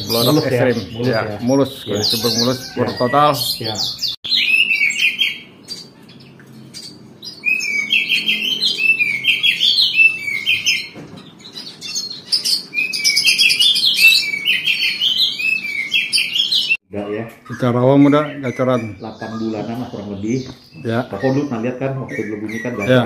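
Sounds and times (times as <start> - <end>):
bird chirping song: 0.0 - 23.0.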